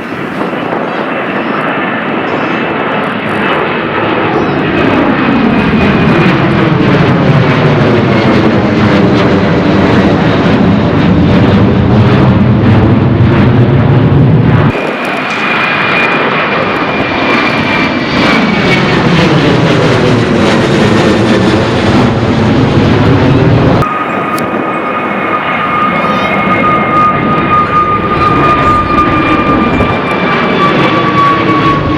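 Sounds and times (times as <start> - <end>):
jet airliner taking off: 0.0 - 31.9.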